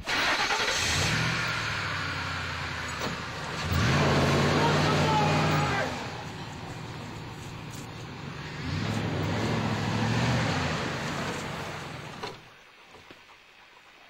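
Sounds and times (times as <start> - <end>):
car driving: 0.0 - 12.5.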